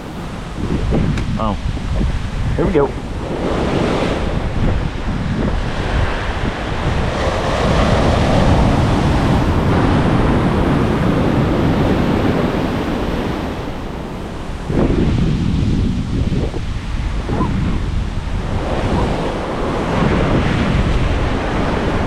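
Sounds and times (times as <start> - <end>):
ocean surf breaking: 0.0 - 16.0, 16.7 - 22.0
wind buffeting microphone: 0.0 - 22.0.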